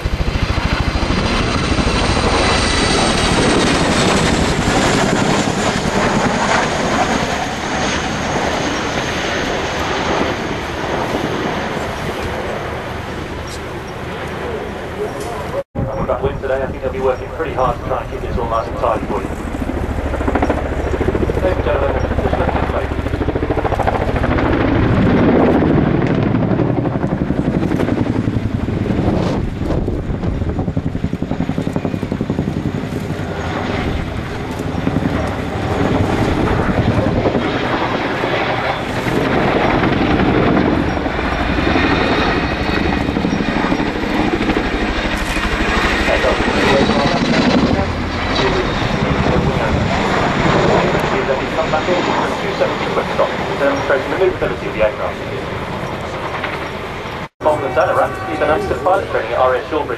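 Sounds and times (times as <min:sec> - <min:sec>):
helicopter rotor blade beat: 0:00.0 - 0:59.9
high turbine whine: 0:00.0 - 0:59.9.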